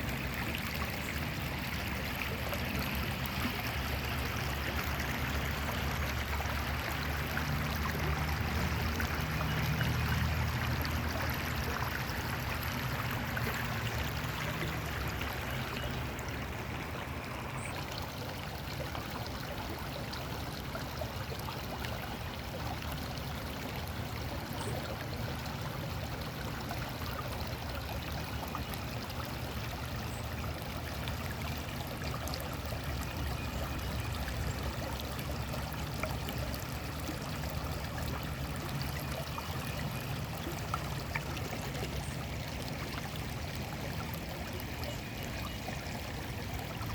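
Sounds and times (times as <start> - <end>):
creek water running: 0.0 - 46.9.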